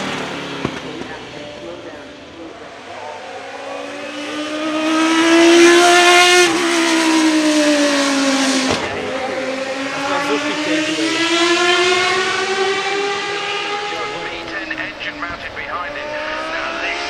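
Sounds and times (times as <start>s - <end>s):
race car engine passing by: 0.0s - 17.0s.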